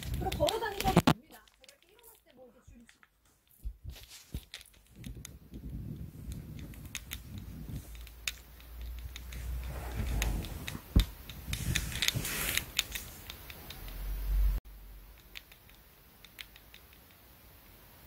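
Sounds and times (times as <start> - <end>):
light clicks: 0.0 - 3.5, 4.4 - 14.1, 15.1 - 17.2.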